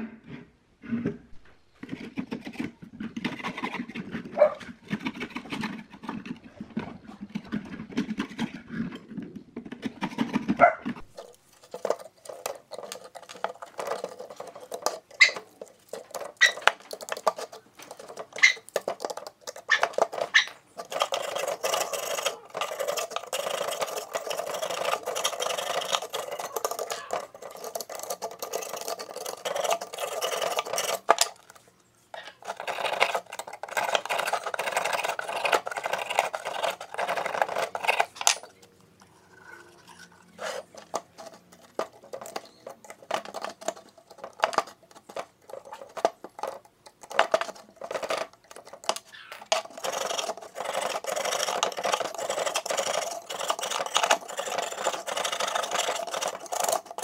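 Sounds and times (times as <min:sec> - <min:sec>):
metal scraper scratching rust: 0:01.8 - 0:09.1, 0:09.7 - 0:31.5, 0:32.2 - 0:57.0.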